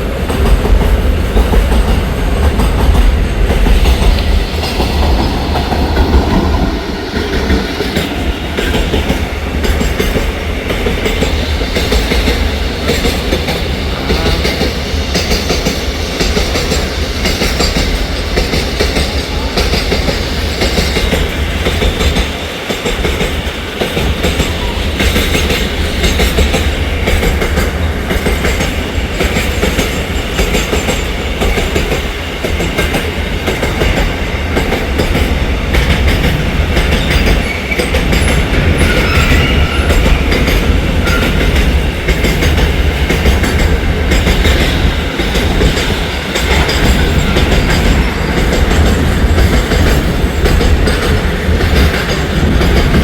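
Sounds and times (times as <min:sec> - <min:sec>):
train rumbling past: 0:00.0 - 0:53.0.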